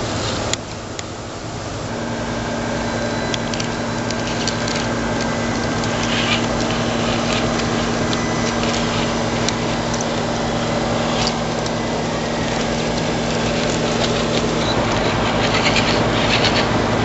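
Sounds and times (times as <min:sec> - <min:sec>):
electric motor whining: 0:01.8 - 0:17.0
tyres clicking and scraping: 0:02.7 - 0:17.0.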